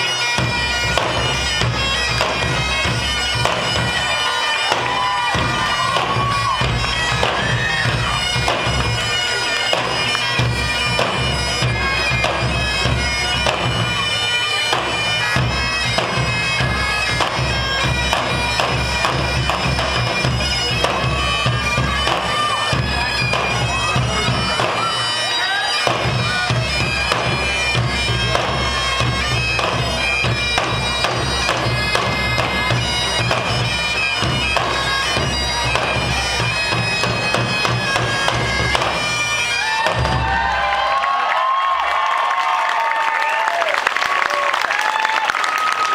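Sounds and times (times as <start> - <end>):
bagpipes playing a tune: 0.0 - 41.2
barrel drums beating: 0.0 - 41.2
bagpipe drones: 0.0 - 41.3.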